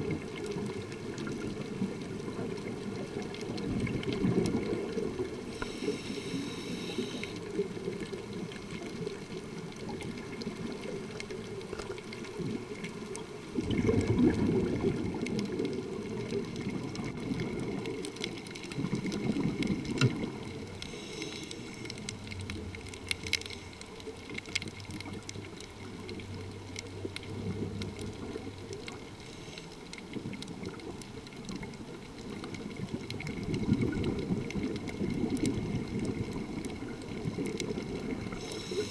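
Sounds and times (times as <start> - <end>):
muffled underwater noise: 0.0 - 38.9
scuba exhaust bubbles gurgling: 0.0 - 38.9.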